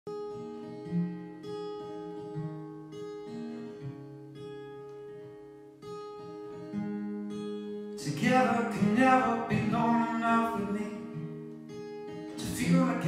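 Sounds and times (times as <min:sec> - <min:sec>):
acoustic guitar chords ringing: 0:00.1 - 0:13.0.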